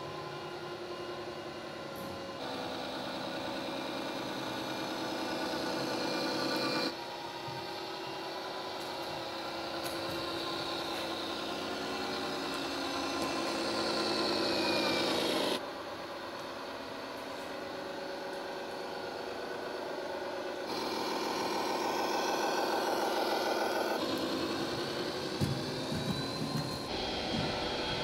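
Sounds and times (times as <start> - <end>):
simulated truck engine sound: 0.0 - 28.0.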